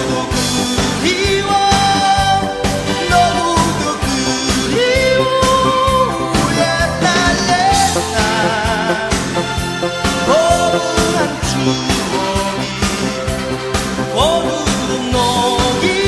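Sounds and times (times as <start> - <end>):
song with held vibrato melody: 0.1 - 16.0.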